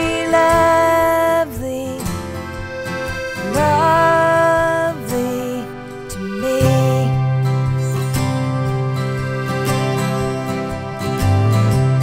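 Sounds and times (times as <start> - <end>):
acoustic guitar playing: 0.0 - 12.0
soft background song: 0.0 - 12.0.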